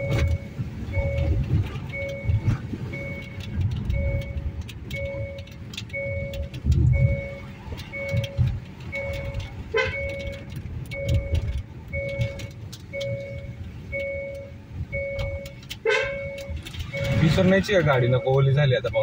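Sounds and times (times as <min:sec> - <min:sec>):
low rumble: 0:00.0 - 0:15.6
car warning beeper: 0:00.0 - 0:19.0.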